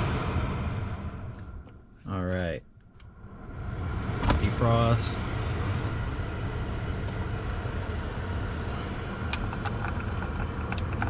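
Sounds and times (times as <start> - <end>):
blower fan air rushing: 0.0 - 2.2, 3.1 - 11.0
low hum: 0.0 - 11.0.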